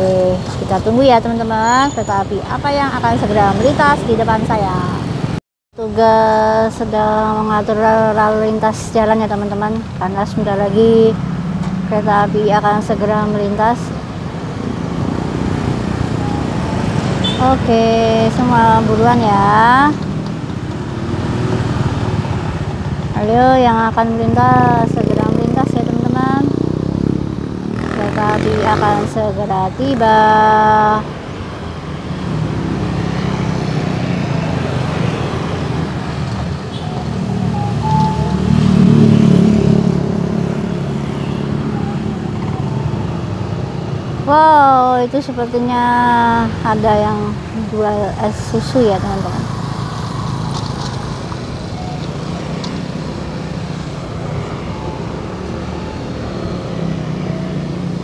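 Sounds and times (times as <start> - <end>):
motor scooter engines: 0.0 - 58.0
road traffic: 0.0 - 58.0.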